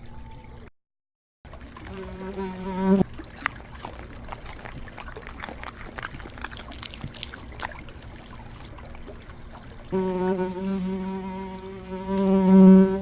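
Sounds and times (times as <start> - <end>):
water trickling: 1.5 - 13.0.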